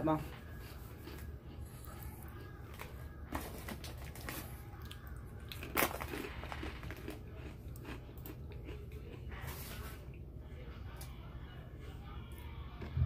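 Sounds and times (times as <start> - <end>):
chewing and crunching food: 0.0 - 13.0
steady low hum: 0.0 - 13.0.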